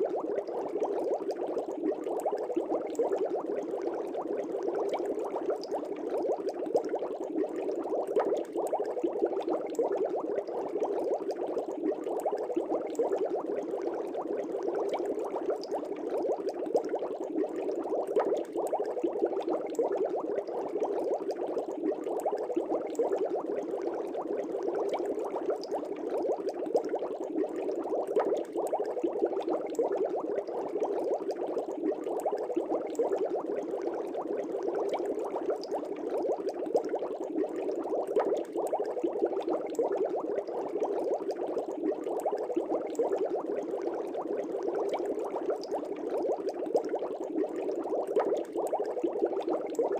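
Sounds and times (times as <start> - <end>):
air bubbles in fish tank: 0.0 - 49.9.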